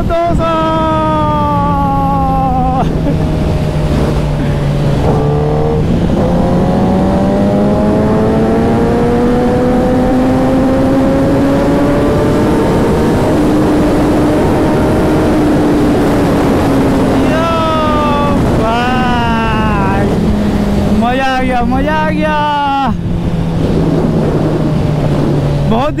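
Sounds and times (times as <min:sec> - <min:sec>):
motorcycle engine accelerating: 0:00.0 - 0:26.0
wind rush: 0:00.0 - 0:26.0.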